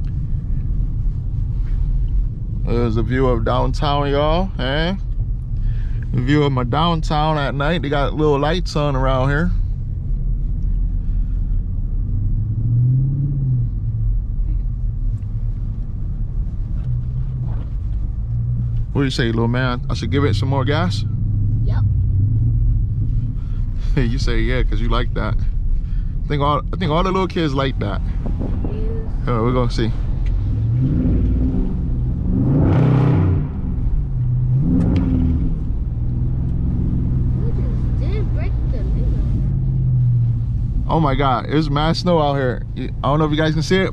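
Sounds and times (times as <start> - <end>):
car engine rumbling while driving: 0.0 - 43.9.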